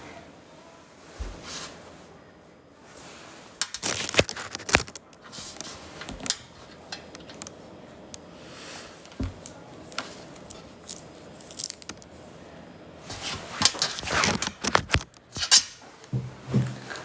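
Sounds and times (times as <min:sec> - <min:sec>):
clothing fabric rustling: 0:02.8 - 0:17.0.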